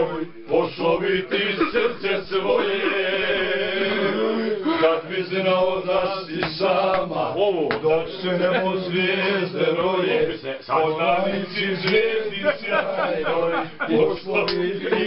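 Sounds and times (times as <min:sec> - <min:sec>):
men singing without instruments: 0:00.0 - 0:15.0.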